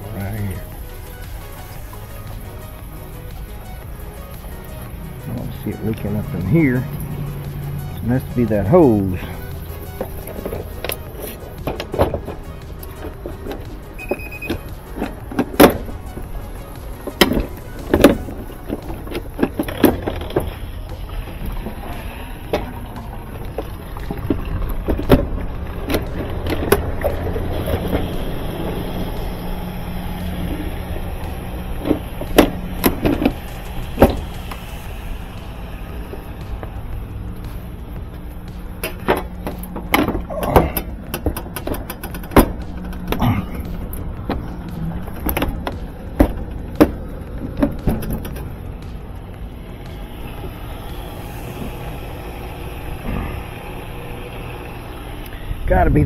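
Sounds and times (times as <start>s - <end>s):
low hum: 0.0s - 56.0s
steady low rumble: 0.0s - 56.0s.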